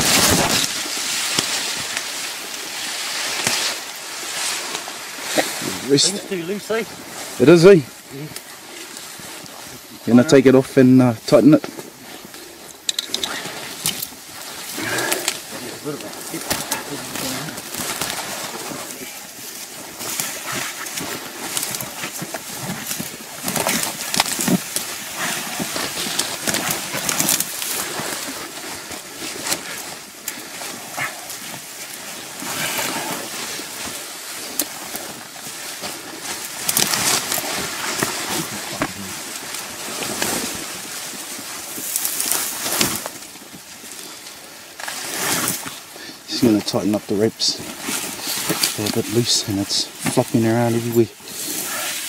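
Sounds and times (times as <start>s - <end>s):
vegetation rustling against clothing: 0.0s - 52.0s.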